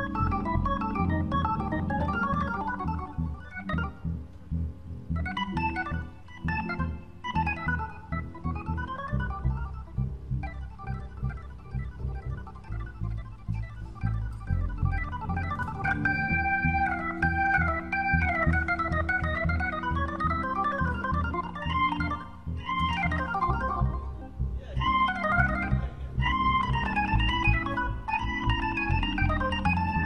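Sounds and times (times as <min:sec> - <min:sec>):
band low rhythmic pulse: 0:00.0 - 0:30.0
organ soloing: 0:00.0 - 0:30.0.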